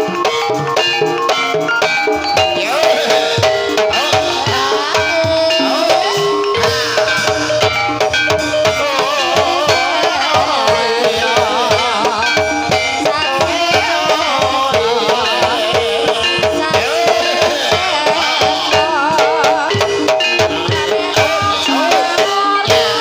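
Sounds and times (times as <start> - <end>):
hand drums beating: 0.0 - 23.0
ringing metallophones: 0.0 - 23.0
wavering melody line: 0.0 - 23.0.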